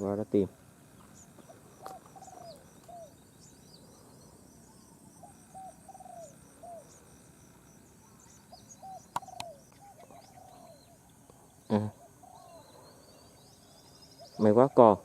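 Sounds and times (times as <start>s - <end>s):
dove cooing: 0.0s - 15.0s
insects chirping: 0.0s - 15.0s.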